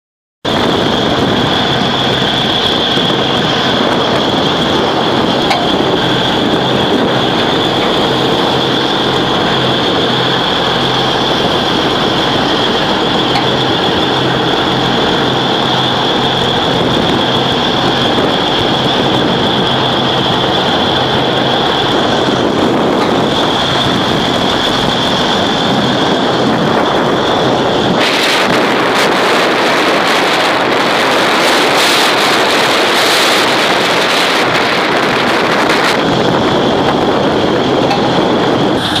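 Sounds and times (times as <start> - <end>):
high steady whine: 0.4 - 39.0
boat engine hum: 0.5 - 39.0
waves breaking: 0.5 - 39.0
wind buffeting microphone: 0.5 - 39.0
wind rushing: 0.5 - 39.0.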